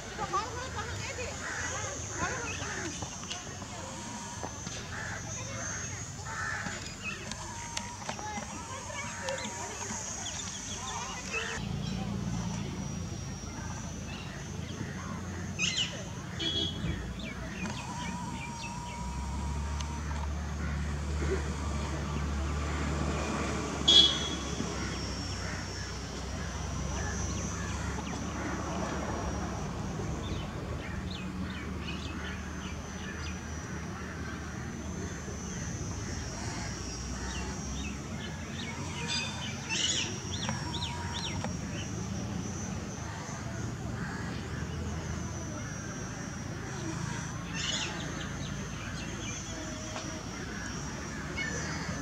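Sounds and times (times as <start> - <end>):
model plane motor drone: 0.0 - 52.0
thin high whine: 0.0 - 52.0
small birds chirping: 0.1 - 43.7.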